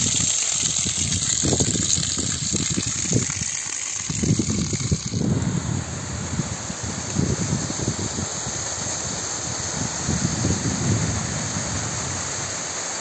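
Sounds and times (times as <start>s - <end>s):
wind buffeting microphone: 0.0s - 12.7s
water gushing: 0.0s - 13.0s.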